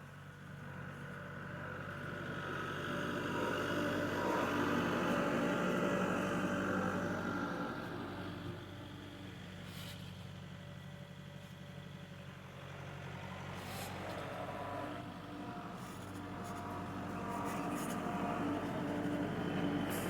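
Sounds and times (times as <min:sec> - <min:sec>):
high engine whine: 0:00.1 - 0:10.2, 0:12.8 - 0:20.0.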